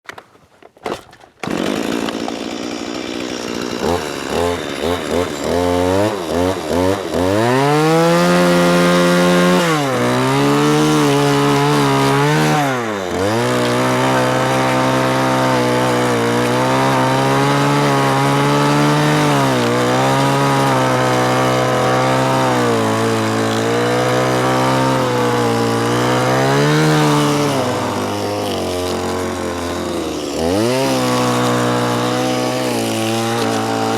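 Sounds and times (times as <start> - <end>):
cutter head stripping bark: 0.1 - 33.9
chainsaw engine revving: 0.9 - 33.9.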